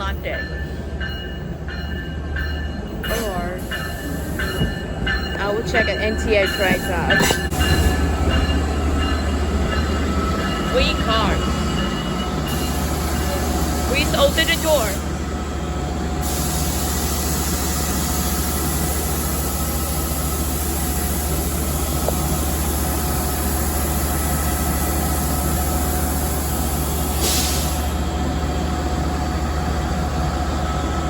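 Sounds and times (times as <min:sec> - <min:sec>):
train hum and rumble: 0:00.0 - 0:31.0.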